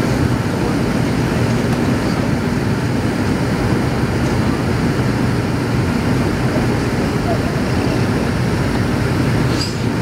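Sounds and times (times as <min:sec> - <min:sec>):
jet engines at climb power: 0:00.0 - 0:10.0.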